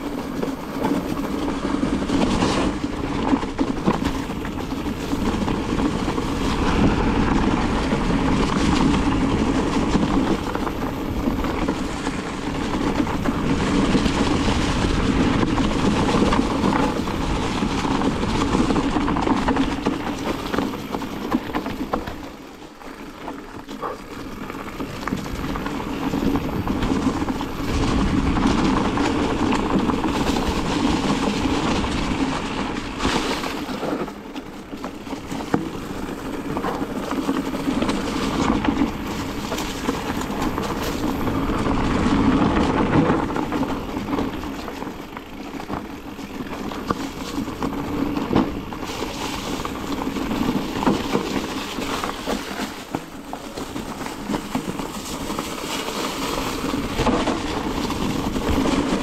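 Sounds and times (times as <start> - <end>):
bike knocks and rattles: 0.0 - 59.0
bike tyres rumbling over dirt: 0.0 - 59.0.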